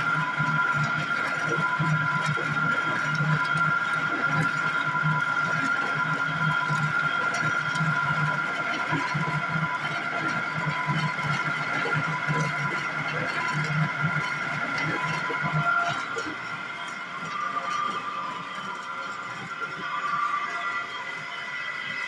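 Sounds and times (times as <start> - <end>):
oil press machine whining and throbbing: 0.0 - 22.0.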